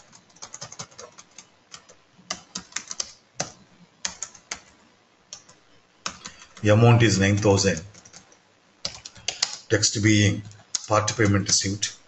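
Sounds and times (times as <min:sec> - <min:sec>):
computer keyboard typing: 0:00.0 - 0:04.7, 0:05.3 - 0:06.6, 0:07.3 - 0:09.7, 0:10.4 - 0:11.7.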